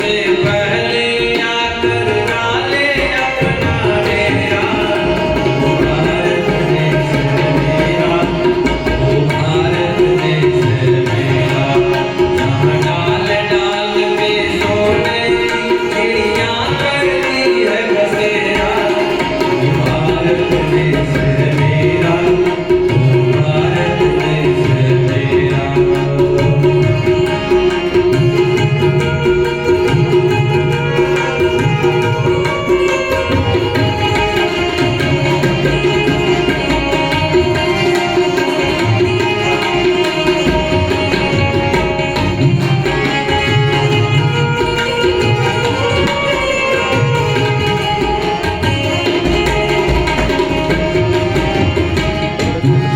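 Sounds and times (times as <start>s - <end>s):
tabla playing a rhythm: 0.0s - 52.9s.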